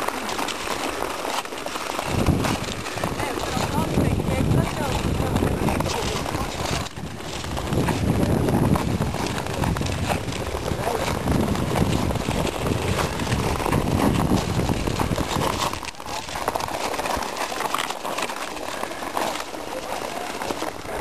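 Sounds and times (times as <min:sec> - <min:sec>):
ice skates scraping on ice: 0:00.0 - 0:21.0.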